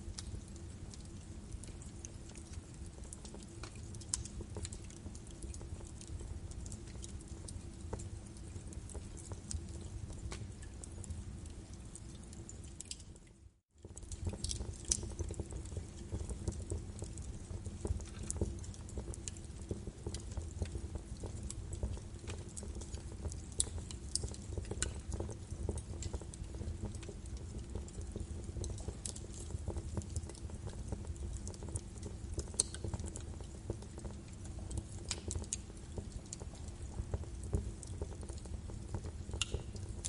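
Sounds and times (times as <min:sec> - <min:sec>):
low rumble of flames: 0:00.0 - 0:40.0
wood fire crackling and popping: 0:00.0 - 0:40.0.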